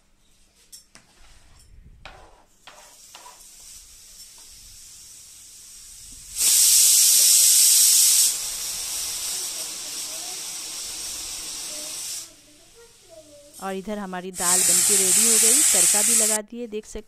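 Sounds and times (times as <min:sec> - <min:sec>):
food sizzling in hot oil: 0:02.7 - 0:16.4.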